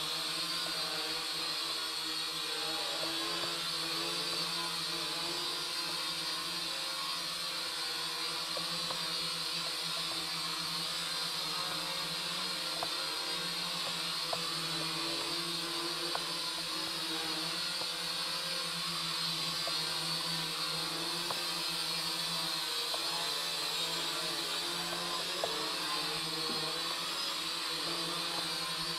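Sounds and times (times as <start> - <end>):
toy drone motors whirring: 0.0 - 28.9.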